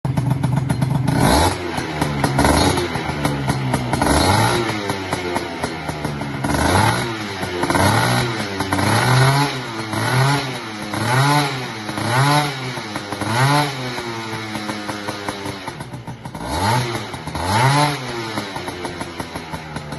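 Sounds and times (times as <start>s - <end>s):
scooter engine revving: 0.1s - 19.9s.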